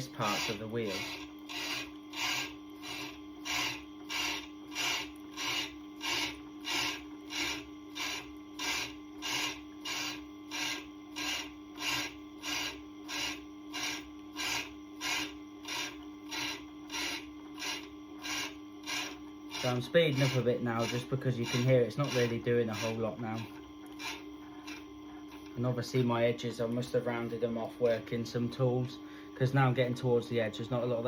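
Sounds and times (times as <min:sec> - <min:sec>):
diamond tool rasping on grinding stone: 0:00.0 - 0:26.2
machine motor hum: 0:00.0 - 0:31.0.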